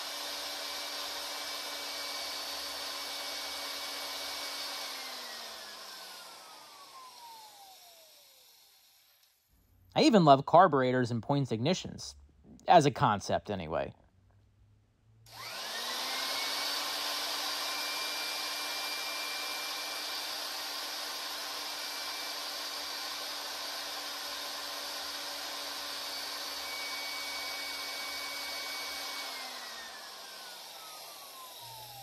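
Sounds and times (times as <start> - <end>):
electric drill whining: 0.0 - 9.5, 15.3 - 32.0.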